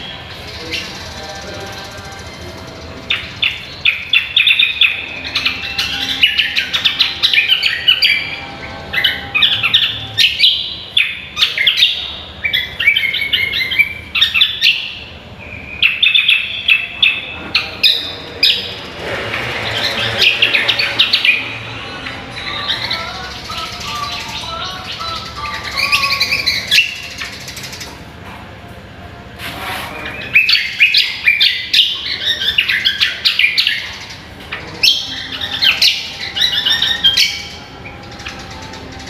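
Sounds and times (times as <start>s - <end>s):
bird chirping and warbling: 0.0s - 28.2s, 29.4s - 39.0s.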